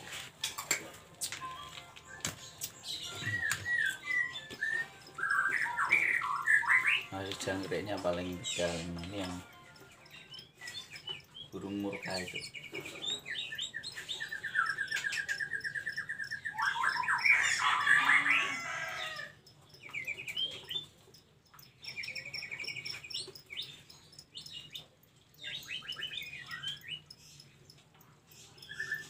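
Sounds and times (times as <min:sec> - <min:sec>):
birds rattling trills: 0:00.0 - 0:29.0
birds chattering calls: 0:01.2 - 0:29.0.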